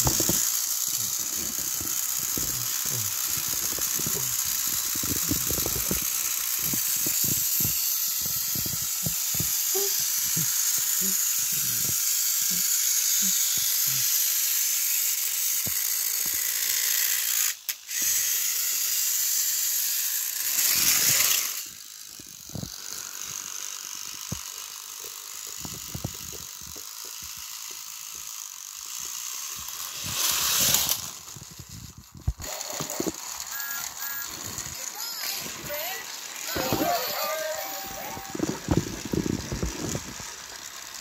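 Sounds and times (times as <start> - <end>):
toy train whirring on track: 0.0 - 41.0.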